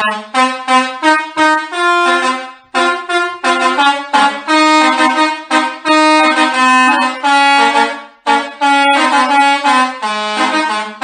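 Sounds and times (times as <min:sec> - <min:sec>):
multi-tone bus air horn tune: 0:00.0 - 0:11.0.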